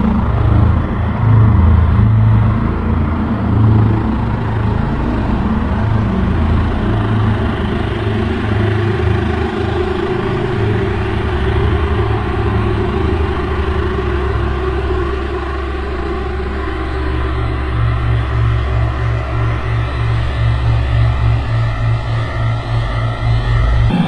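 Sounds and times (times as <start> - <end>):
low rumbling drone: 0.0 - 24.0
steady hum: 0.0 - 24.0.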